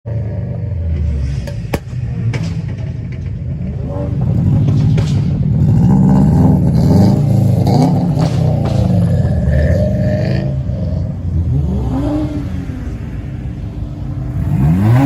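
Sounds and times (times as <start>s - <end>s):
car engine revving: 0.1s - 15.0s.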